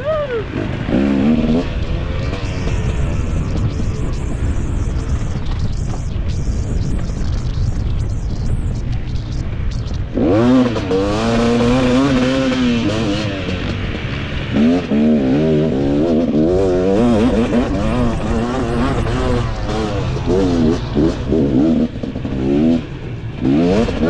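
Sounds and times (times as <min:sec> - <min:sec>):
motocross bike engine revving: 0:00.0 - 0:06.0, 0:10.0 - 0:24.0
rumbling wind: 0:00.0 - 0:24.0.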